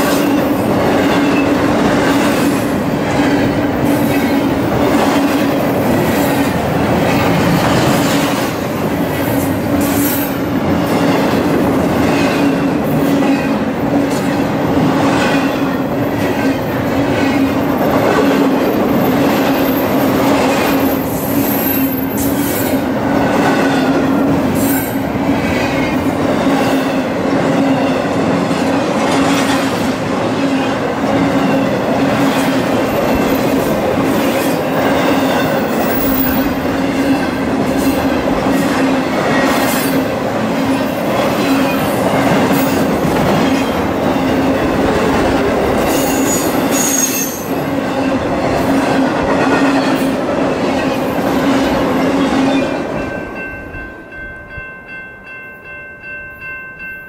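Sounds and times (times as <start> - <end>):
rumble of wheels on rail: 0.0 - 55.2.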